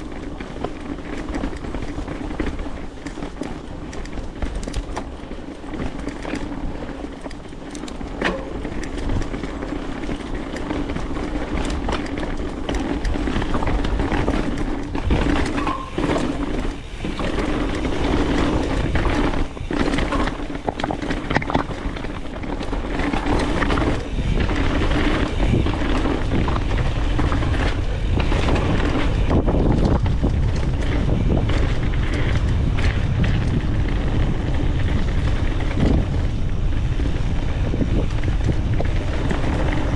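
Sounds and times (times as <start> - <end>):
bike rattling and knocking: 0.0 - 39.9
bike tyre roar on dirt: 0.0 - 39.9
wind rumble on microphone: 0.0 - 39.9.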